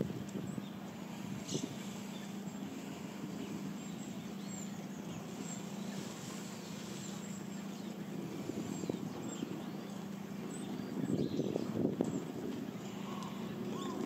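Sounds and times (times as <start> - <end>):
steady low hum: 0.0 - 14.0
high bird calls: 1.4 - 14.0.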